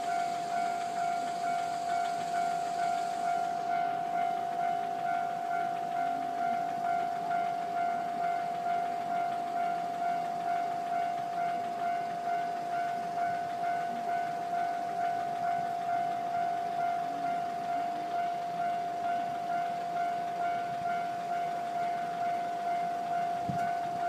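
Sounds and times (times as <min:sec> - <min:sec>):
constant electronic tone: 0:00.0 - 0:24.0.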